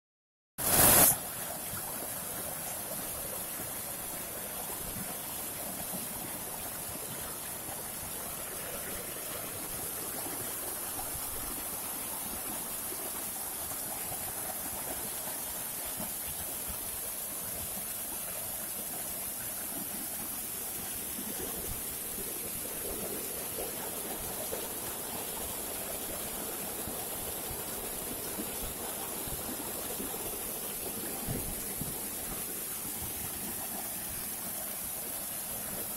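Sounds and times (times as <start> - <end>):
water rushing over rocks: 0.6 - 35.9.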